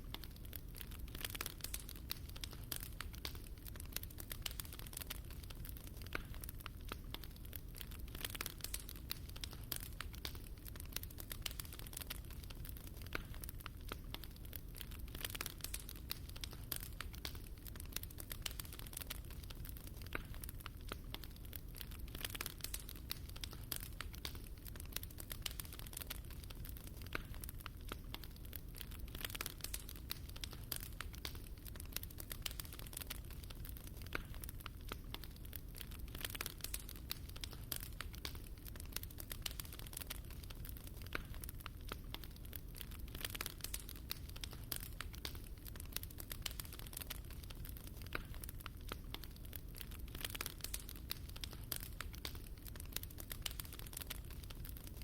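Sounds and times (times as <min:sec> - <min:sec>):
fire crackling and popping: 0:00.0 - 0:55.0
low steady fire rumble: 0:00.0 - 0:55.0.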